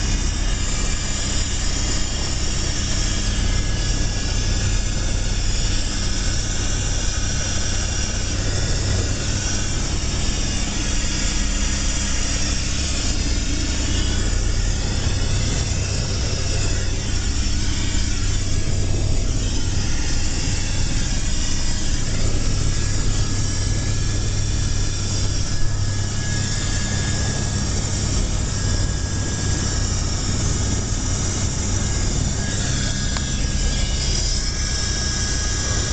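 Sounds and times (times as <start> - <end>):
helicopter engine drone: 0.0 - 35.9
high turbine whine: 0.0 - 35.9.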